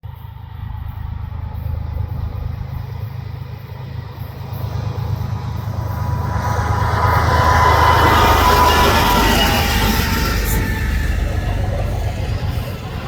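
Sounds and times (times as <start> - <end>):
diesel locomotives rumbling: 0.0 - 13.0.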